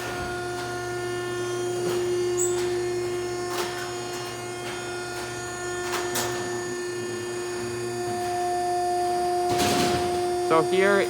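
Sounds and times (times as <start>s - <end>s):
high-pitched electric motor hum: 0.0s - 11.0s.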